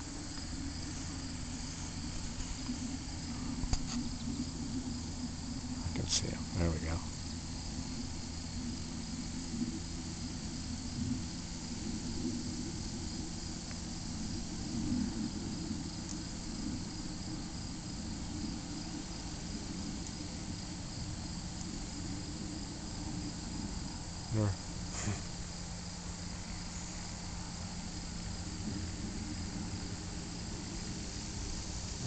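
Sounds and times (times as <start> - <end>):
insects chirring: 0.0 - 32.0
low steady hum: 0.0 - 32.0.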